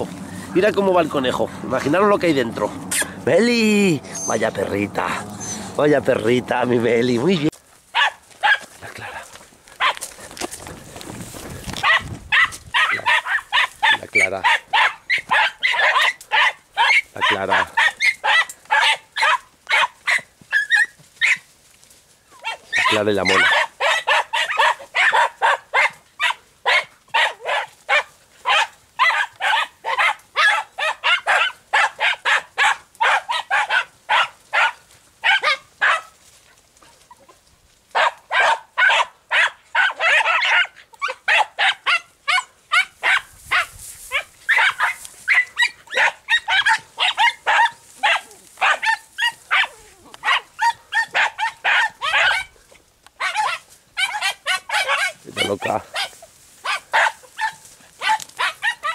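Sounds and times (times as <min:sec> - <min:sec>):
hounds barking in high yaps: 0:02.7 - 0:05.8, 0:07.2 - 0:10.1, 0:11.8 - 0:21.5, 0:22.3 - 0:36.2, 0:36.8 - 0:58.9.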